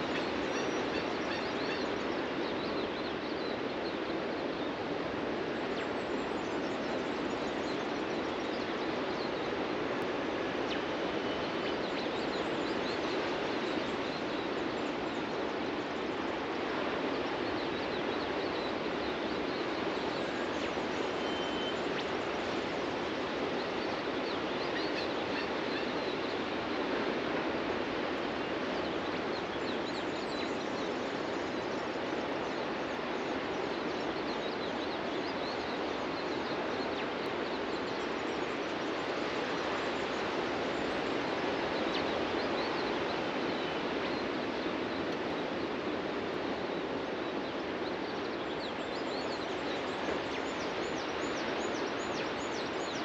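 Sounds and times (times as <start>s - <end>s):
ocean surf on beach: 0.0s - 53.0s.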